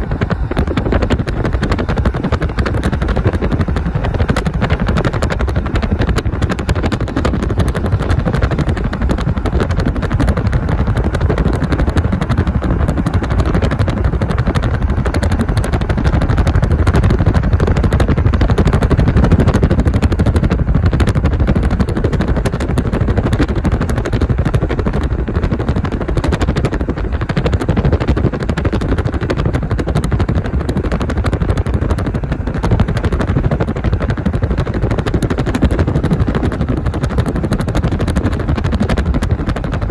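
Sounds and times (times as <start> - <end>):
car road and wind rumble: 0.0 - 39.9
dense rapid crackling: 0.0 - 39.9.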